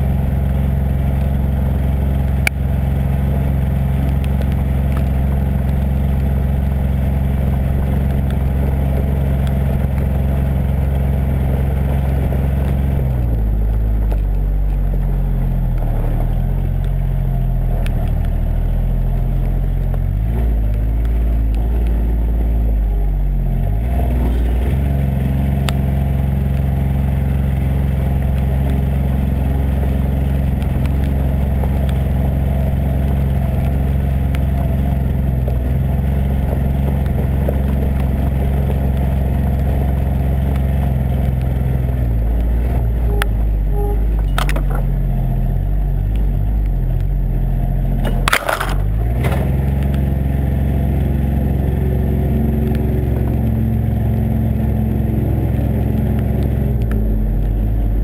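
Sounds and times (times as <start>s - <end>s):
diesel utility vehicle engine running: 0.0s - 58.0s.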